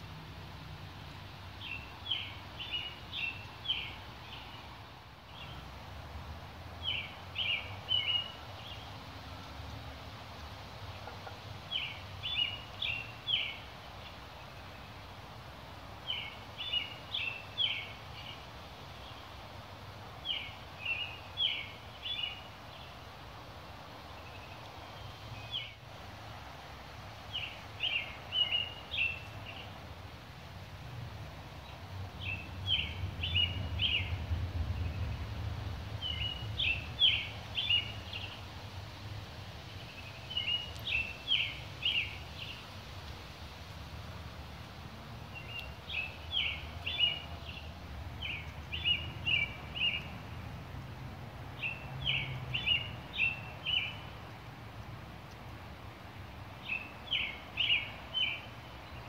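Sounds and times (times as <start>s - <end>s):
songbird singing: 0.0s - 54.5s, 55.2s - 59.0s
outdoor hiss: 0.0s - 59.0s.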